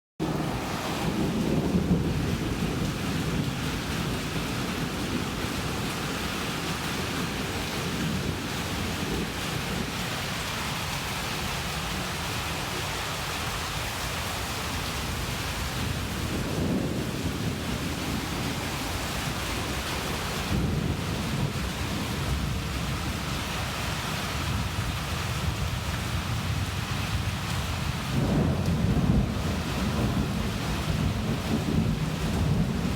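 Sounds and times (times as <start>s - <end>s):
rain falling: 0.2s - 32.9s
thunder rumbling: 0.2s - 32.9s.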